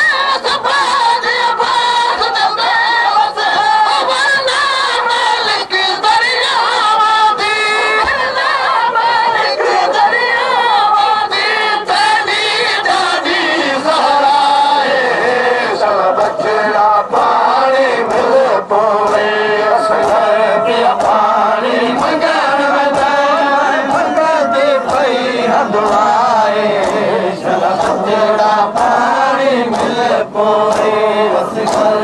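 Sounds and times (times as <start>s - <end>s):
crowd chanting a lament: 0.0s - 32.0s.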